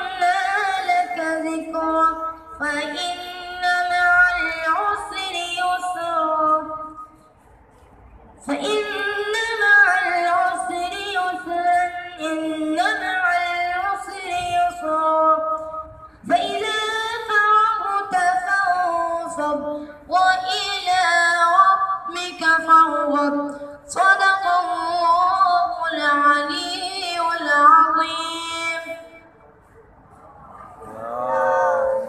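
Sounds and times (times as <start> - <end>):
boy chanting into a microphone: 0.0 - 7.1, 8.5 - 29.2.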